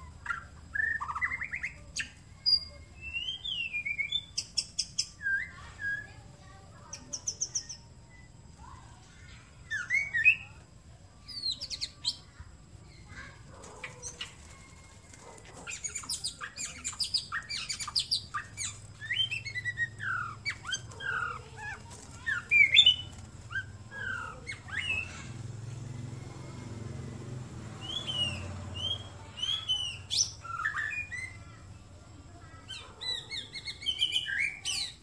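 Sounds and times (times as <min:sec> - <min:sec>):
bird singing whistles and chatter: 0:00.0 - 0:25.4, 0:27.7 - 0:35.0.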